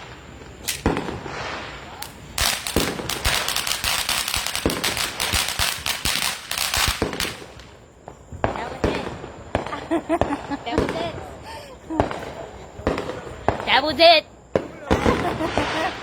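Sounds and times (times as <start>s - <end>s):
firework pops: 0.0s - 11.1s, 11.9s - 13.7s
crackling firecracker bangs: 0.0s - 11.2s, 12.0s - 13.8s, 14.5s - 16.0s.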